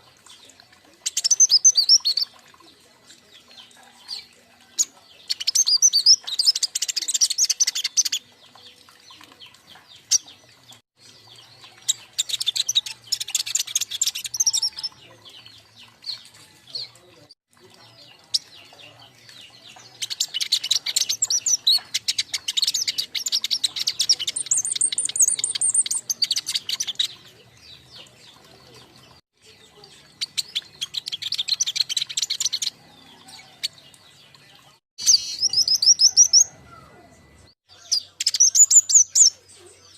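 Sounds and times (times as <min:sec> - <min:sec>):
young songbirds chattering: 0:00.0 - 0:39.9.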